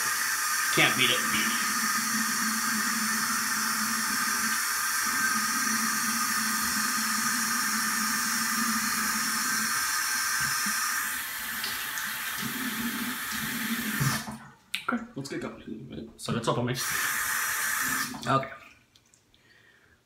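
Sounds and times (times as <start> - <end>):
tap water running into sink: 0.0 - 14.4, 16.8 - 18.8.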